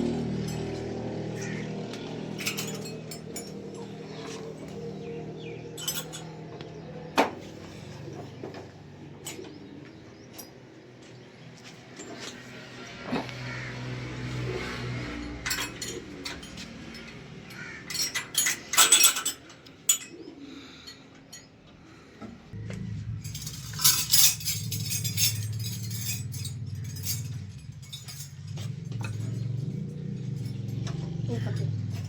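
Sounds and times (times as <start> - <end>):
metal tools clinking: 0.0 - 13.3, 15.1 - 21.8, 23.0 - 32.0
low motor hum: 0.0 - 17.3, 22.5 - 32.0.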